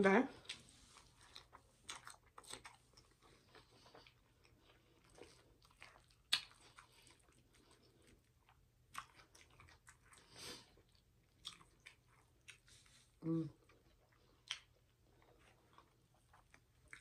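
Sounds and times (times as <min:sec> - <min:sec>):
chewing food: 0:00.3 - 0:17.0.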